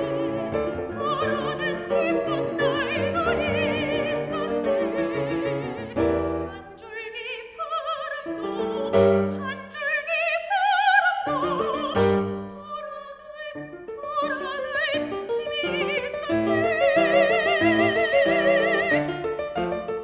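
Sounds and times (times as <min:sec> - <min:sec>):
piano accompaniment: 0:00.0 - 0:07.0, 0:08.3 - 0:10.0, 0:11.2 - 0:20.0
soprano singing with vibrato: 0:00.0 - 0:20.0.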